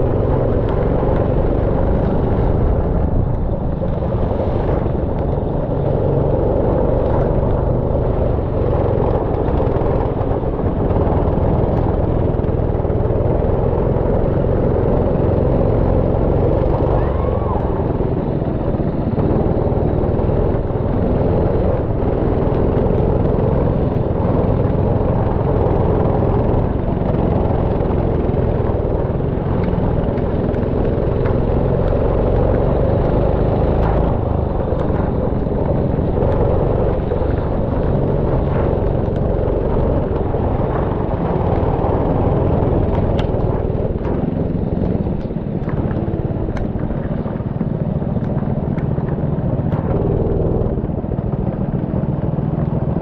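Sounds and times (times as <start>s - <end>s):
go-kart engine running: 0.0s - 53.0s
noise over microphone: 0.0s - 53.0s.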